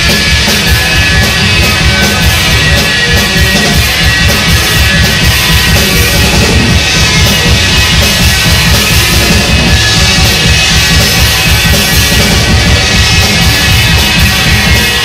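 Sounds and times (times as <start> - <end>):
drum kit beat: 0.0 - 15.0
rock band playing: 0.0 - 15.0.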